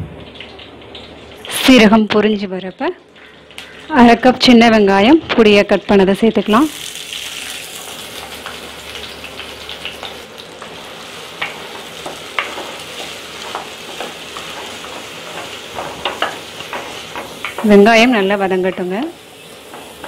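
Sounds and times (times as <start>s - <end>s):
shallots sizzling in hot oil: 0.4s - 20.0s.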